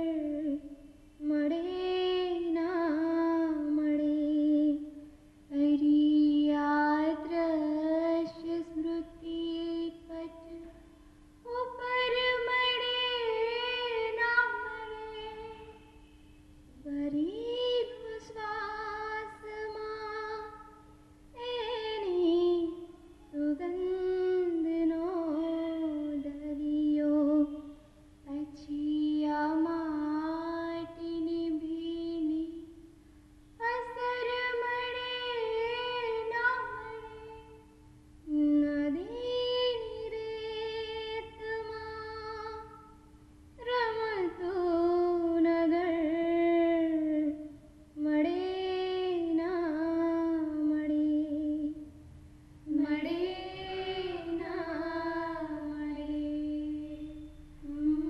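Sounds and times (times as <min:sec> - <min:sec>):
woman singing: 0:00.0 - 0:10.8, 0:11.4 - 0:16.1, 0:16.7 - 0:32.9, 0:33.5 - 0:43.0, 0:43.6 - 0:51.9, 0:52.7 - 0:58.0.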